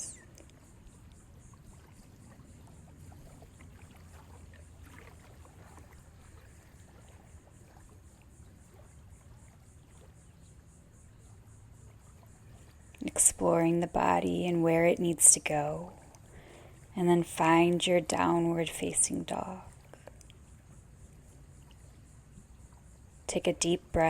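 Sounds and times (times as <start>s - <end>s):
gentle ocean waves: 0.0s - 24.0s.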